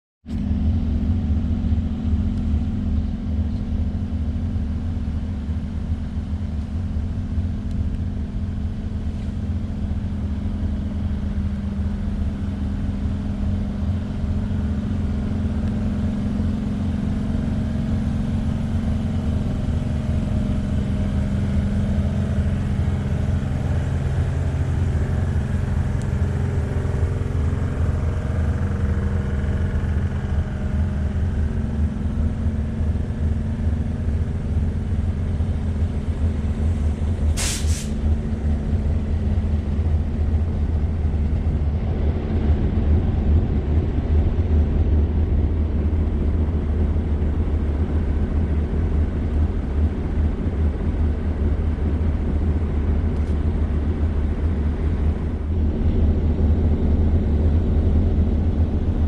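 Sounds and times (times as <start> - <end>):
rail car equipment humming: 0.3 - 59.0.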